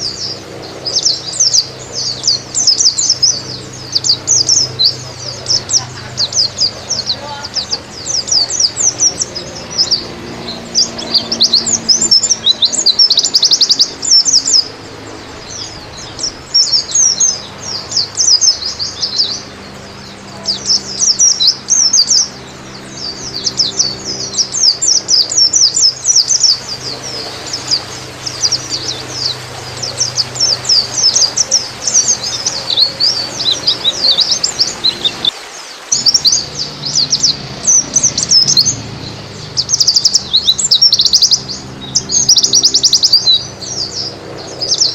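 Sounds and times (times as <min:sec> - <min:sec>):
bird twittering song: 0:00.0 - 0:44.9.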